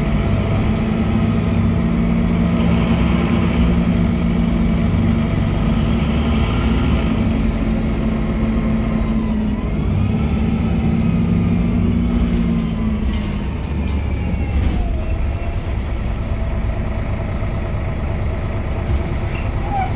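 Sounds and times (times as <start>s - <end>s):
bus diesel engine drone: 0.0s - 19.9s.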